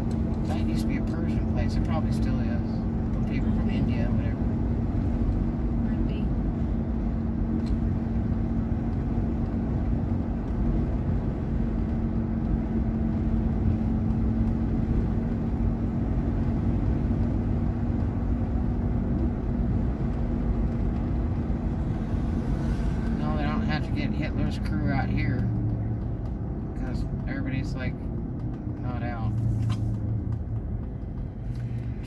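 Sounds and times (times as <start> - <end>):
car interior driving rumble: 0.0 - 32.0.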